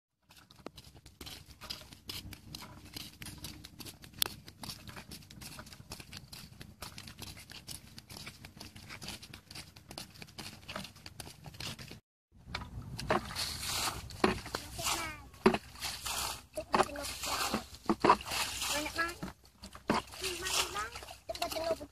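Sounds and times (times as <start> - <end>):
footsteps on dirt road: 0.2 - 21.9.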